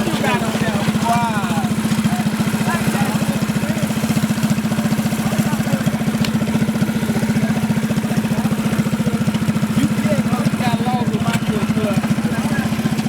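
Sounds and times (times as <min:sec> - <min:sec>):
minibike engine idling: 0:00.0 - 0:13.0.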